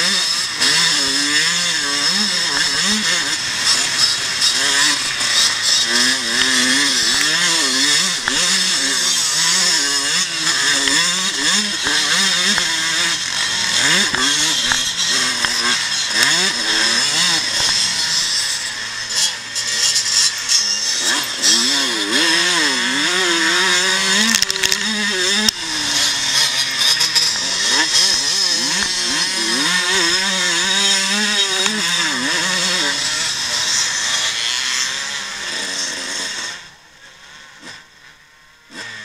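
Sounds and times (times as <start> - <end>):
motorcycle engine racing: 0.0 - 39.0.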